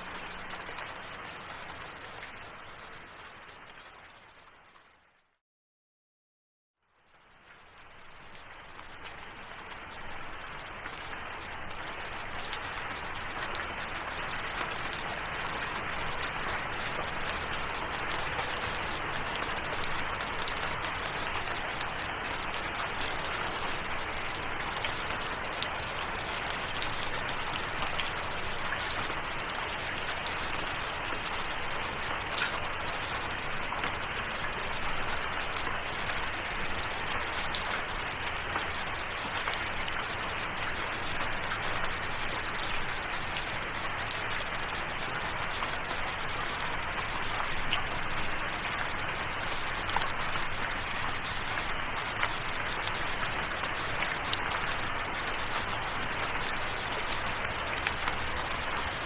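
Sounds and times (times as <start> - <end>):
steady rainfall: 0.0 - 5.0, 7.1 - 59.0
sharp ticks of raindrops: 7.0 - 59.0.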